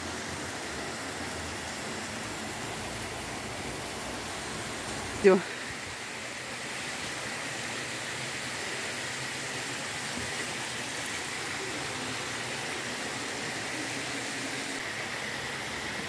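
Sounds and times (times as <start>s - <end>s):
small waterfall rushing: 0.0s - 16.0s
stream flowing: 0.0s - 16.0s.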